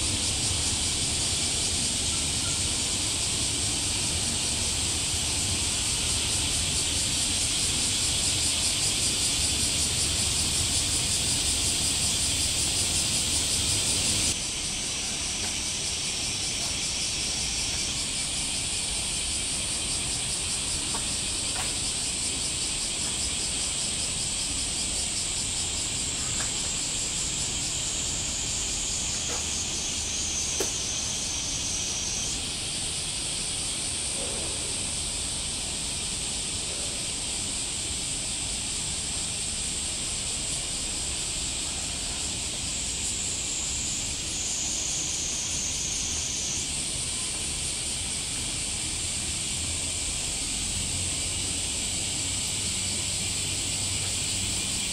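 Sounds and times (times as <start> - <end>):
cicadas buzzing: 0.0 - 54.9.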